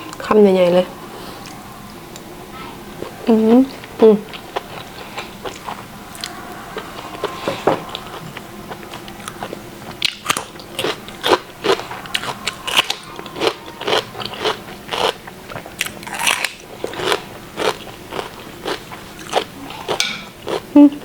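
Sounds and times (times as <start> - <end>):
person chewing crunchy food: 1.2 - 20.7.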